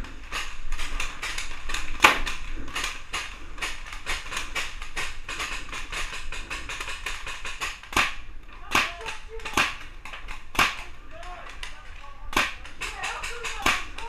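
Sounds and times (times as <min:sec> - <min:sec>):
paintball markers firing: 0:00.2 - 0:14.0.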